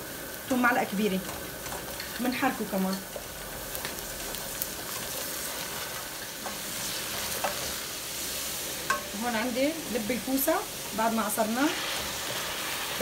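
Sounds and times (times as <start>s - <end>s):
onion sizzling in oil: 0.0s - 13.0s.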